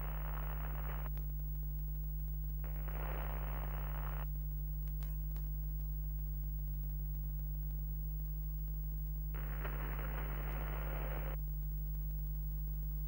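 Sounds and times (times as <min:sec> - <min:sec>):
low electrical hum: 0:00.0 - 0:13.0
static hiss: 0:00.0 - 0:13.0.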